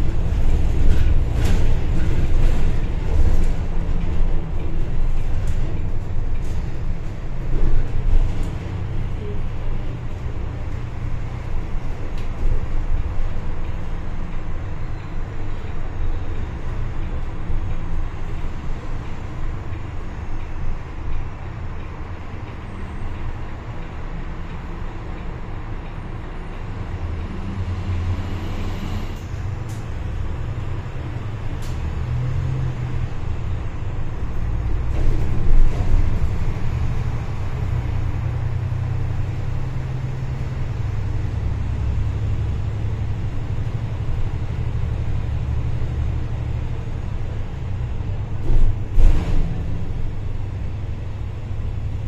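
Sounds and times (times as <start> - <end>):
bus engine running: 0.0 - 52.0
road noise: 0.0 - 52.0.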